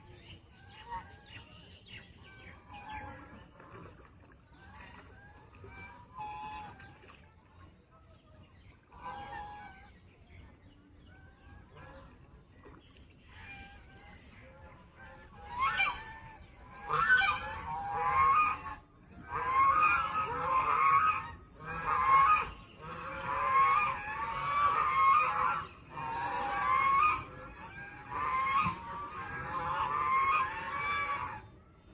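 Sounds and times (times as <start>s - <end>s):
ducks chirpy calls: 0.0s - 7.2s, 8.6s - 31.9s.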